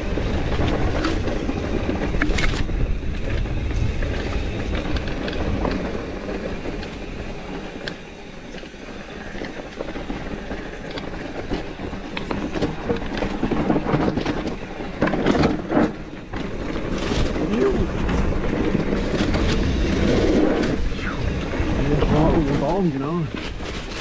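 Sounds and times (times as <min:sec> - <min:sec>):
bike clicks and rattles: 0:00.0 - 0:24.0
bike tyres on dirt: 0:00.0 - 0:24.0.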